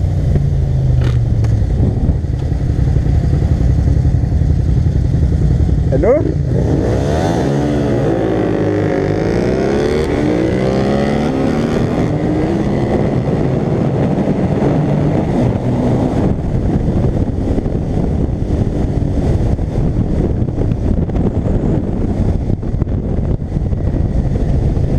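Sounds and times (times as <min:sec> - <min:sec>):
motorcycle engine accelerating: 0:00.0 - 0:24.9
wind rushing over camera: 0:00.0 - 0:24.9.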